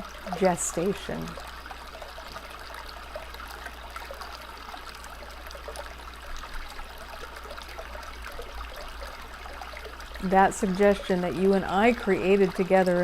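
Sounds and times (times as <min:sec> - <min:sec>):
stream trickling and babbling: 0:00.0 - 0:13.0.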